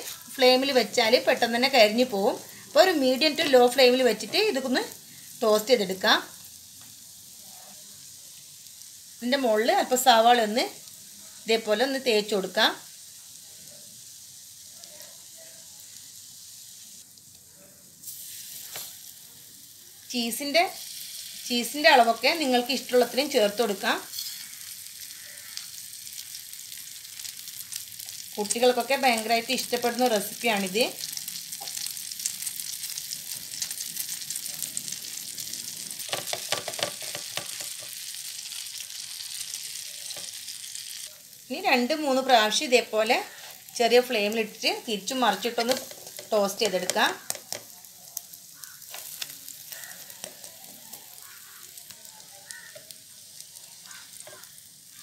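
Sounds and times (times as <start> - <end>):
bread sizzling in butter: 0.0 - 55.0.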